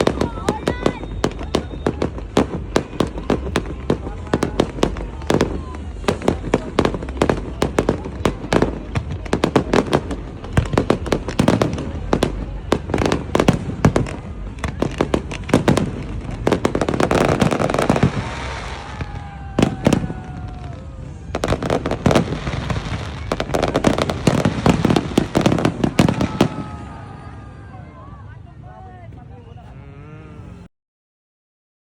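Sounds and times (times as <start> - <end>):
fireworks bangs and crackles: 0.0 - 29.5
voices: 0.0 - 30.7.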